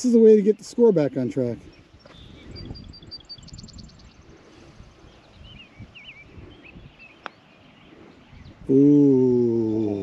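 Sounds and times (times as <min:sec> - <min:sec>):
birds singing and chirping: 0:00.0 - 0:10.0.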